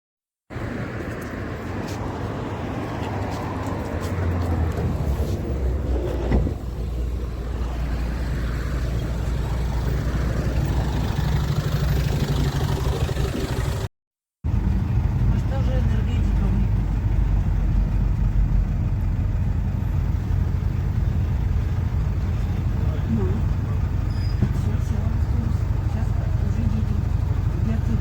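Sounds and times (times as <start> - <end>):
bus diesel engine running: 0.5 - 13.9, 14.5 - 28.0.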